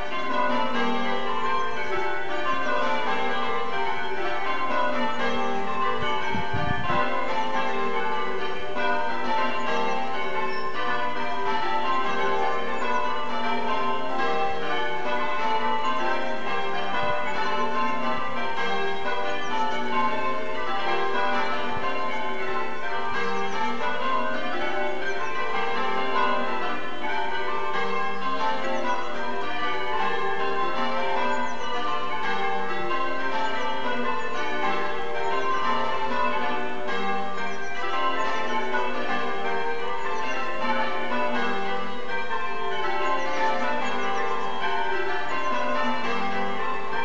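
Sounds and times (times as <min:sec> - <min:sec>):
church bells ringing: 0:00.0 - 0:47.0.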